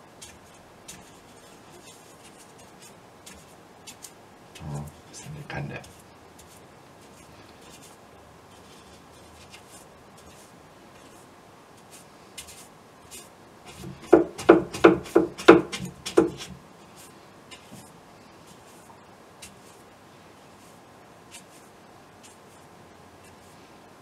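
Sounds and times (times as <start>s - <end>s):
paintbrush brushing on canvas: 0.0s - 23.8s.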